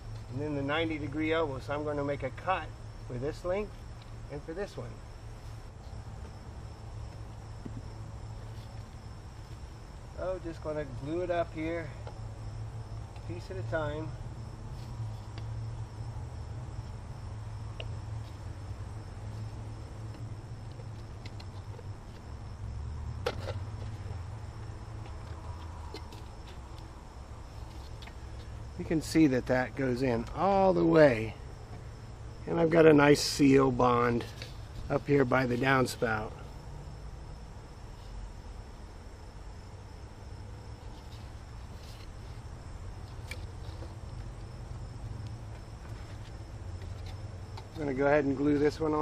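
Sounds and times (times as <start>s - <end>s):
high insect drone: 0.0s - 49.0s
low outdoor rumble: 0.0s - 49.0s.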